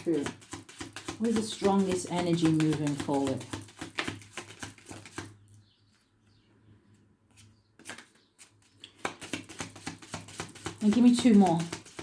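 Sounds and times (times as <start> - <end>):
cards being shuffled: 0.0 - 5.4, 7.3 - 12.0.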